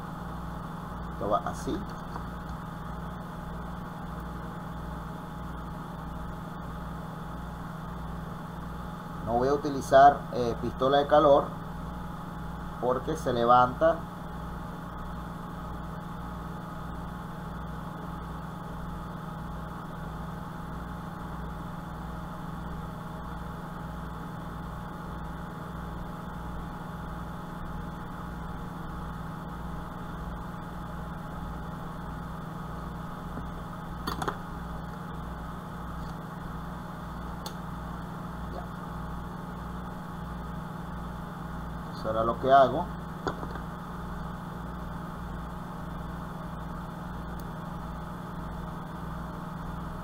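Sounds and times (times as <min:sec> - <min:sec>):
machine hum with low throb: 0:00.0 - 0:50.0.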